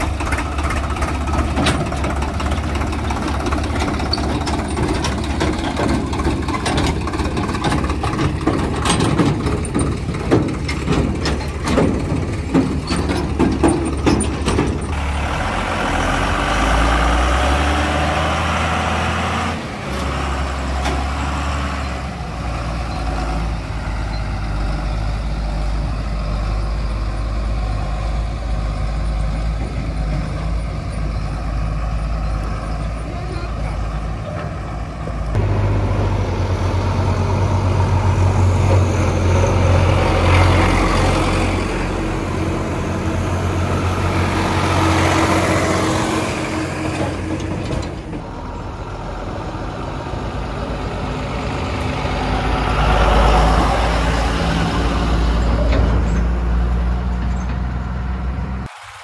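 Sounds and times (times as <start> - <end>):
diesel engines humming: 0.0 - 59.0
tractor driving up: 0.0 - 59.0.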